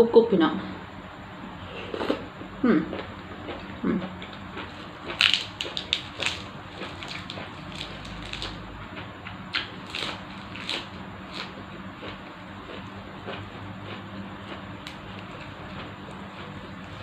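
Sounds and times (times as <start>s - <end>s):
person chewing with wet smacks: 2.9s - 17.0s.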